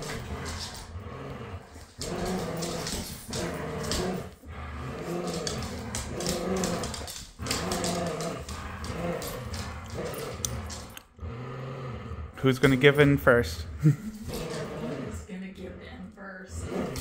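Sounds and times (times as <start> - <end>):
dogs growling in play: 0.0 - 17.0.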